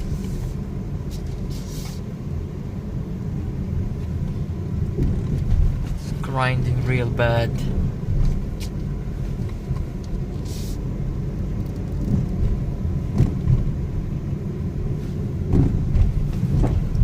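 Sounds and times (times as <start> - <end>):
low grinding rumble: 0.0 - 17.0.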